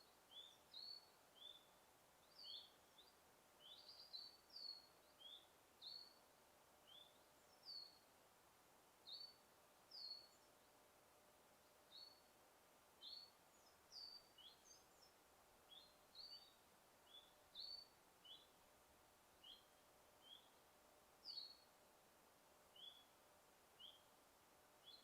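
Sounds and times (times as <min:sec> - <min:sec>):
bird chirping faintly: 0:00.0 - 0:08.1, 0:09.0 - 0:10.9, 0:11.5 - 0:12.4, 0:13.0 - 0:21.9, 0:22.6 - 0:25.0
faint steady hiss: 0:00.0 - 0:25.0.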